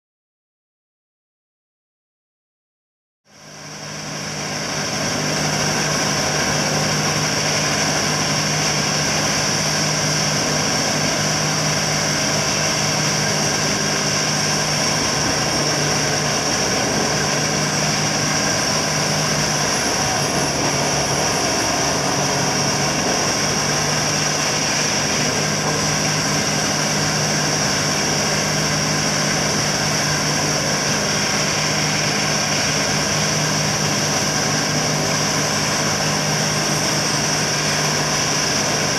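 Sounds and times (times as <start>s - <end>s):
high whine: 3.3s - 38.9s
diesel engine running: 3.4s - 38.9s.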